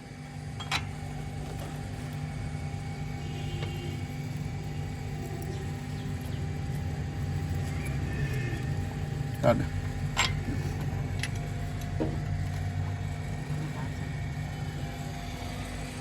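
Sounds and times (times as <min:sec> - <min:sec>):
car engine idling: 0:00.6 - 0:16.0.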